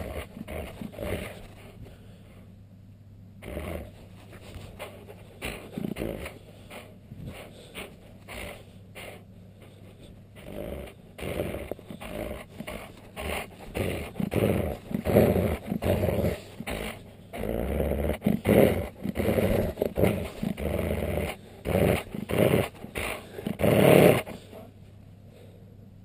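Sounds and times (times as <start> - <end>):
dog growling: 0.0 - 2.2, 3.4 - 24.7.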